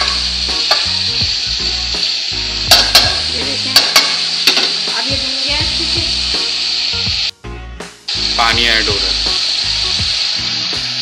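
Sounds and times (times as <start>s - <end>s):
chicken and potatoes sizzling in pot: 0.0s - 7.3s, 8.1s - 11.0s.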